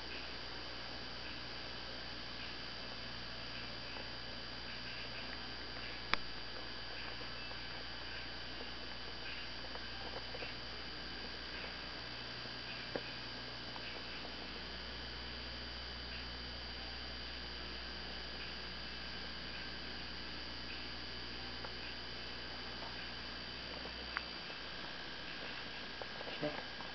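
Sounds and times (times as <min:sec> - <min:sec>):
electrical mains hum: 0:00.0 - 0:26.9
faint high whine: 0:00.0 - 0:26.9.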